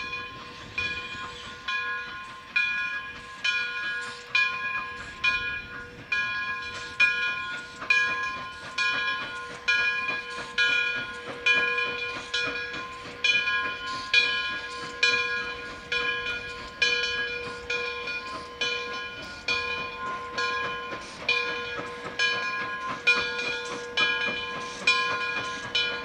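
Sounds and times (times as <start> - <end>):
steam locomotive bell ringing: 0.0 - 26.0.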